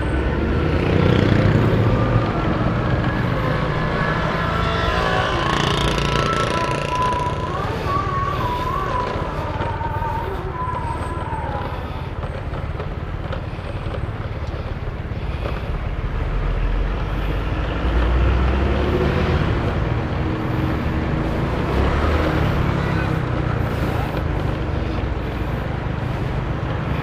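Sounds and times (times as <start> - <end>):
bus engine rumbling: 0.0 - 27.0.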